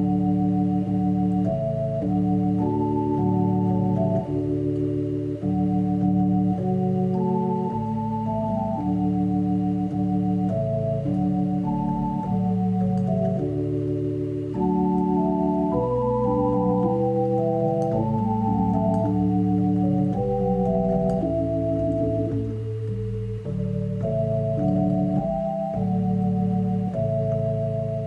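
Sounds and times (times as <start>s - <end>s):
sustained organ chords: 0.0s - 28.0s.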